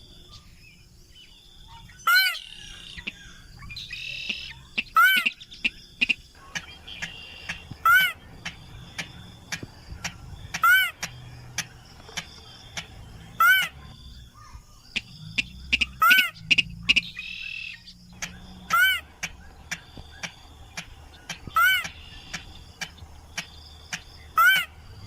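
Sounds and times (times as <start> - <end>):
insects or frogs ticking: 0.0 - 25.0
rail bird call: 0.0 - 25.0.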